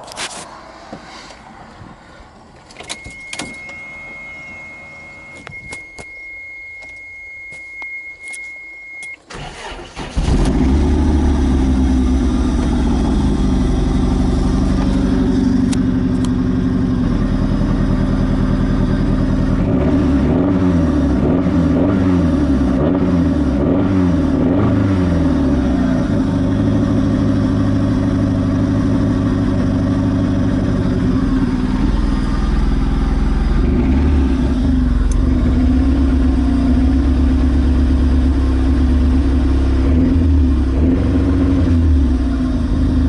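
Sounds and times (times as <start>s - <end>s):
car engine cranking and running: 0.0s - 7.6s, 8.2s - 43.0s.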